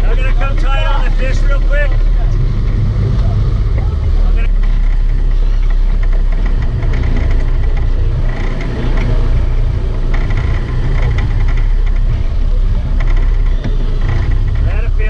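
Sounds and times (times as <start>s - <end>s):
boat engines rumbling: 0.0s - 15.0s.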